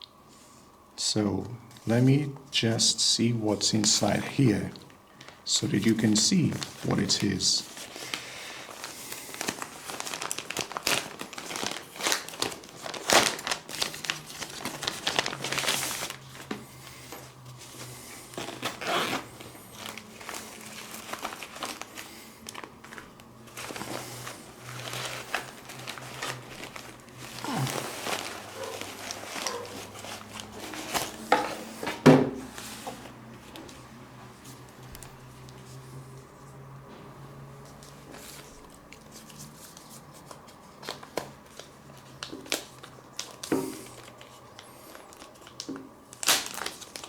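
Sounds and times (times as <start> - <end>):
packaging crinkling and rustling: 3.9 - 36.7, 37.3 - 47.0.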